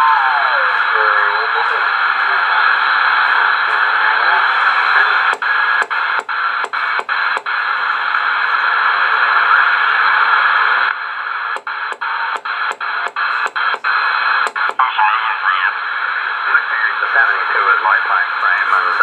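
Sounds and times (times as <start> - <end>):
radio static: 0.3 - 19.0.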